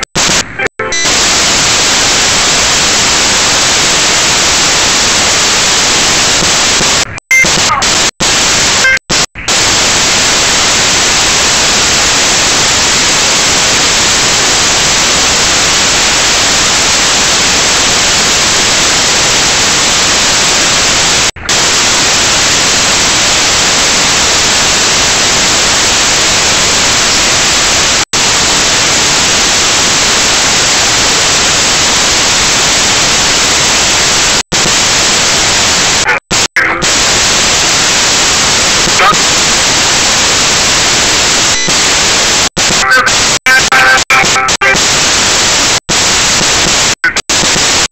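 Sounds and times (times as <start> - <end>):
static hiss: 0.0 - 47.9.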